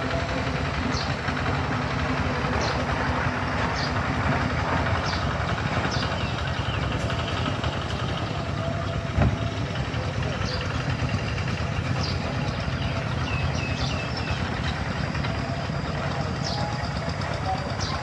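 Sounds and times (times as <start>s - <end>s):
steady rumbling: 0.0s - 18.0s.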